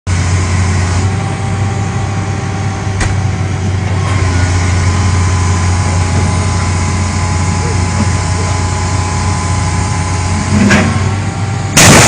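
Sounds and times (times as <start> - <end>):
excavator diesel engine running: 0.1 - 12.0.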